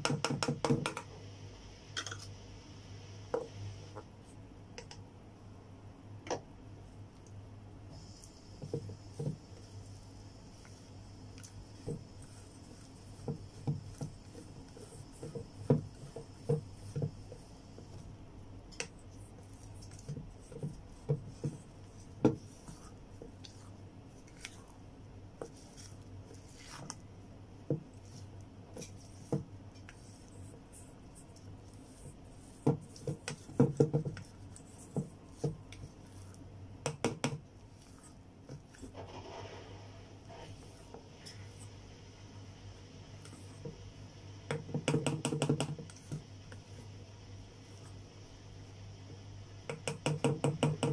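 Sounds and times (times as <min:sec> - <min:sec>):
low steady hum: 0:00.8 - 0:49.8.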